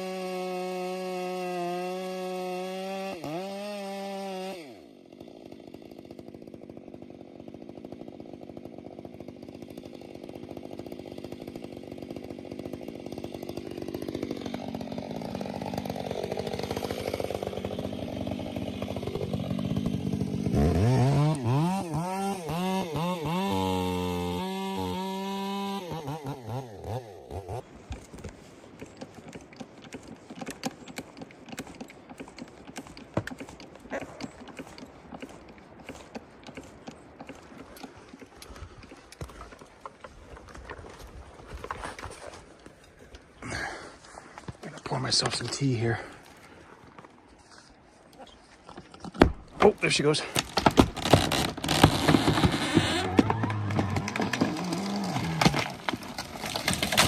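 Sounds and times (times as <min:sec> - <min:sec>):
chainsaw running and revving: 0:00.0 - 0:40.1, 0:49.9 - 0:57.0.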